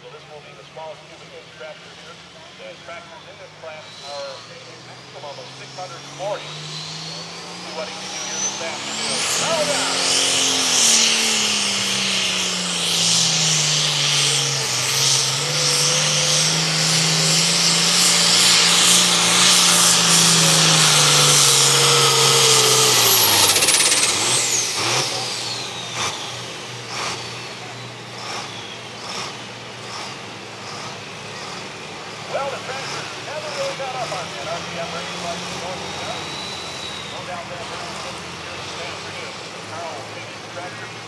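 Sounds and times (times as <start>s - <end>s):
diesel tractor engine under load: 0.0s - 41.0s.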